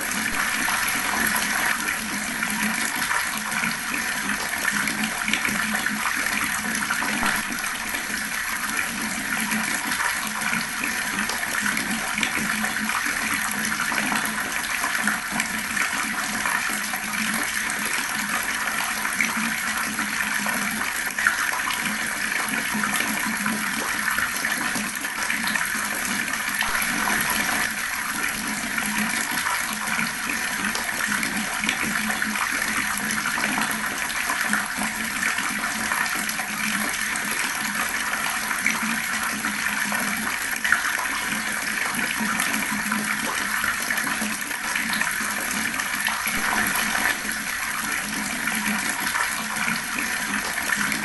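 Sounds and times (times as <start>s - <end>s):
fast-flowing water rushing: 0.0s - 21.9s, 25.4s - 40.8s, 43.5s - 51.0s.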